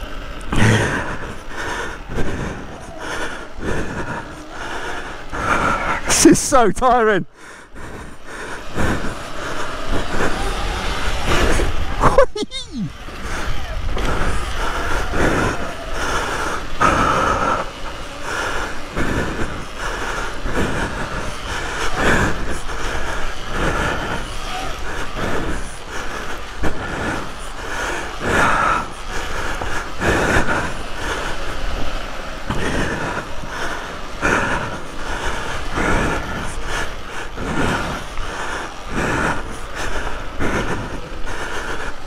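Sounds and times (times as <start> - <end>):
electric motorbike motor whining: 0.0 - 42.0.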